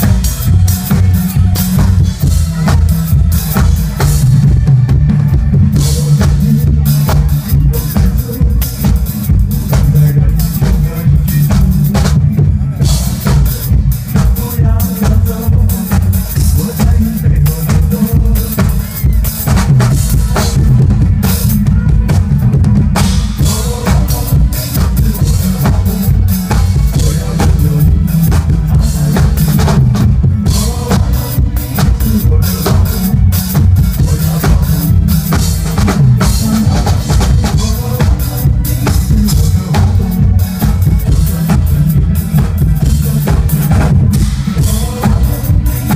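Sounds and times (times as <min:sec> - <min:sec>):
drum kit played live: 0:00.0 - 0:45.9
pop backing track with bass: 0:00.0 - 0:45.9.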